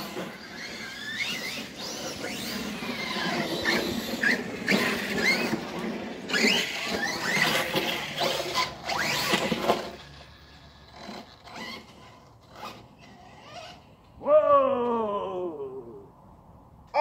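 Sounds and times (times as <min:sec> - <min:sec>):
rc car motors whining: 0:00.0 - 0:14.2.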